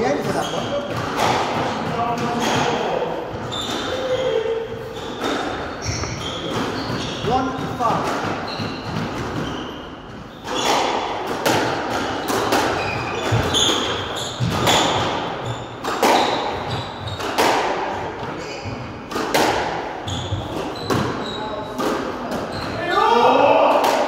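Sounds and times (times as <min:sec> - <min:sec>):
shoes squeaking on wooden floor: 0:00.0 - 0:11.1, 0:12.0 - 0:17.5, 0:18.1 - 0:19.1, 0:20.0 - 0:23.2
squash ball hitting rackets and walls: 0:00.0 - 0:24.0.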